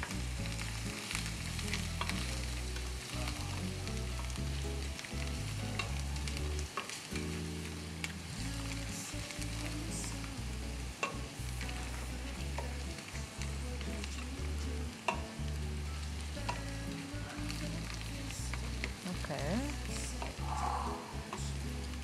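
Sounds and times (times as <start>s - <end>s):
garlic sizzling in frying pan: 0.0s - 22.0s.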